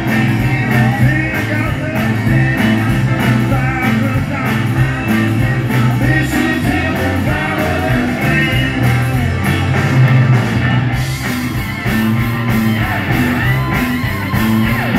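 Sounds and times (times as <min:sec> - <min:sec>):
bass line: 0:00.0 - 0:14.9
drums: 0:00.0 - 0:14.9
electric guitars: 0:00.0 - 0:14.9.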